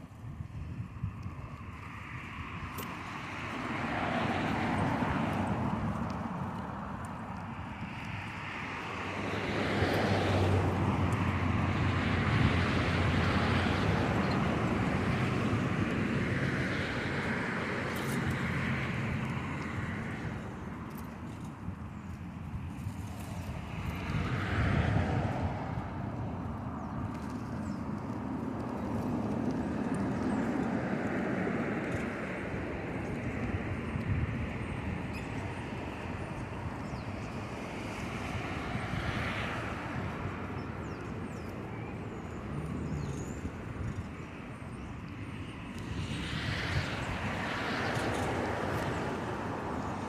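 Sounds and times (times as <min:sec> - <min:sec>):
passing vehicles: 0:00.0 - 0:50.0
wind rushing over microphone: 0:00.0 - 0:50.0.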